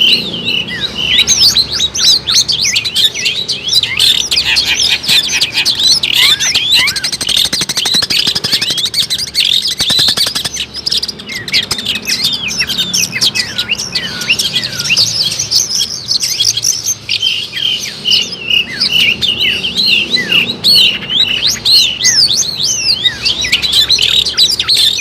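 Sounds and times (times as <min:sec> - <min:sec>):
bird chattering song: 0:00.0 - 0:25.0.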